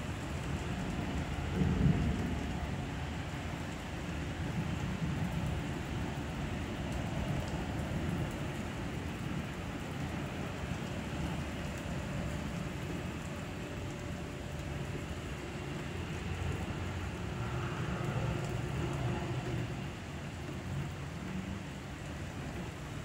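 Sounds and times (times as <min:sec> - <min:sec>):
heavy rain on pavement: 0:00.0 - 0:23.0.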